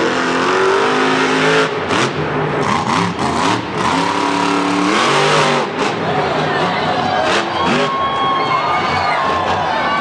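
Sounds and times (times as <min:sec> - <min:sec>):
truck engine revving hard: 0:00.0 - 0:10.0.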